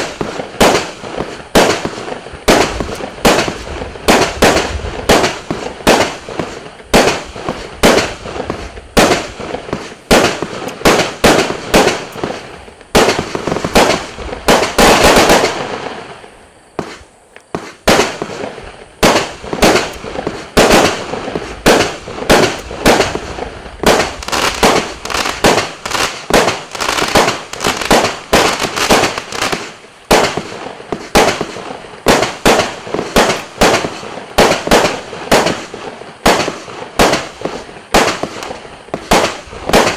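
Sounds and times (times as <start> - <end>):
fireworks shots: 0.0 - 39.9.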